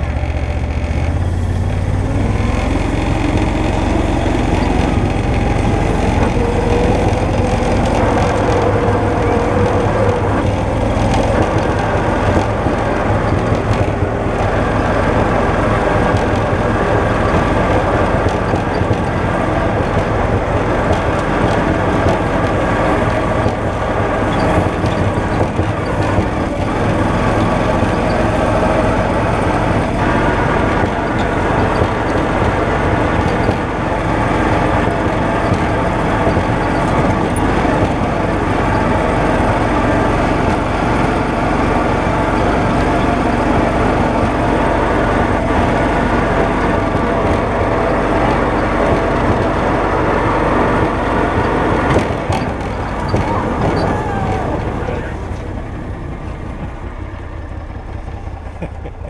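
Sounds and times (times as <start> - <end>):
utility vehicle engine: 0.0 - 59.0.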